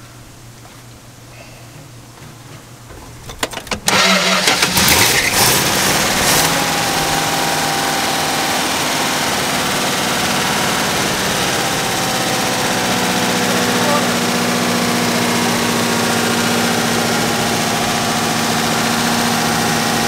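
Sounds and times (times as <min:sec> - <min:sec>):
starter motor cranking: 0:03.3 - 0:20.0
engine revving and idling: 0:03.9 - 0:20.0.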